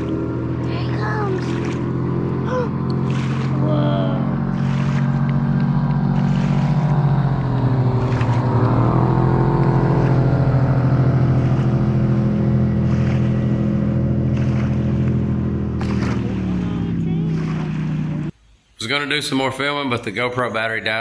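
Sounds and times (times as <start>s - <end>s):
motorboat engine drone: 0.0s - 18.4s.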